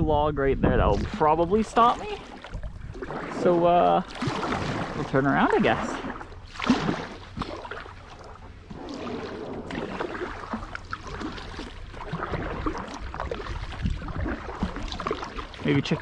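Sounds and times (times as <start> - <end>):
paddle splashing in water: 0.9 - 16.0.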